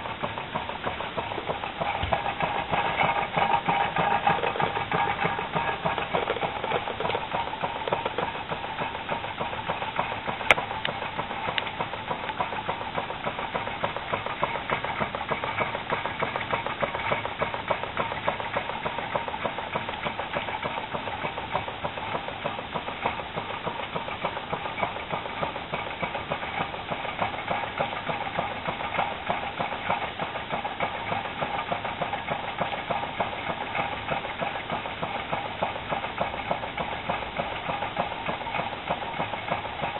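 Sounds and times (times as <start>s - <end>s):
stirling engine clatter of clicks: 0.0s - 39.9s.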